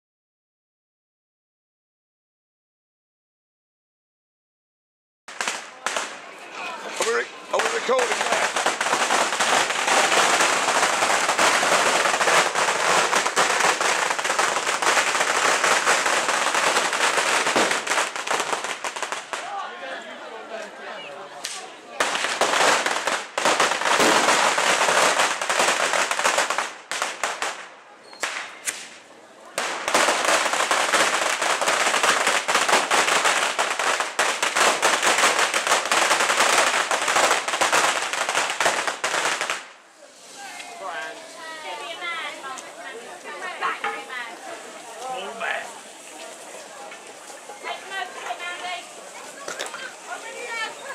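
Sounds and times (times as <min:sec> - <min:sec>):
firecrackers crackling: 0:05.3 - 0:19.7, 0:20.6 - 0:50.9.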